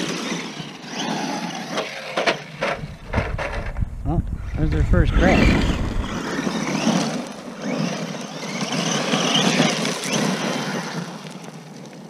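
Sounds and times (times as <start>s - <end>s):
electric motor whine: 0.0s - 11.8s
tyres on gravel: 0.0s - 12.0s.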